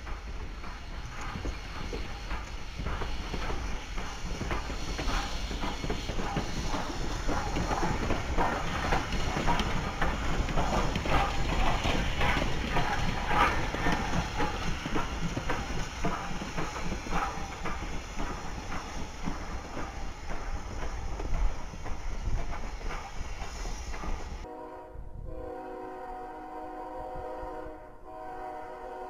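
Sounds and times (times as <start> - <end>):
steam hissing: 0.0 - 24.5
wheels clanking on rails: 0.0 - 24.5.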